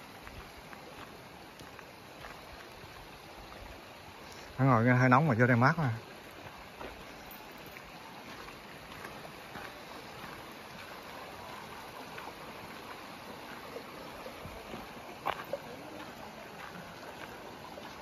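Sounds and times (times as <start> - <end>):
rushing water noise: 0.0 - 18.0.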